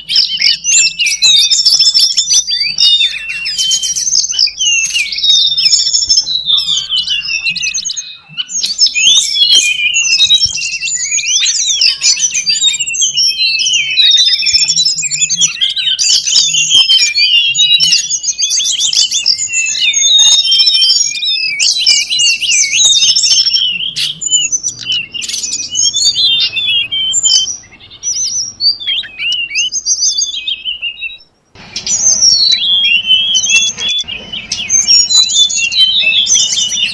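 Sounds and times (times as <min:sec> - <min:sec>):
birds chirping and trilling: 0:00.0 - 0:36.9.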